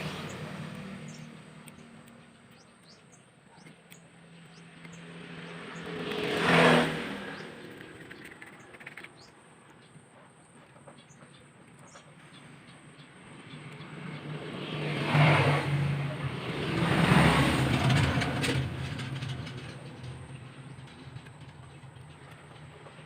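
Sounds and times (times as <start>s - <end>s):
vehicle passing by: 0.0s - 3.0s, 3.6s - 9.3s, 12.3s - 23.0s.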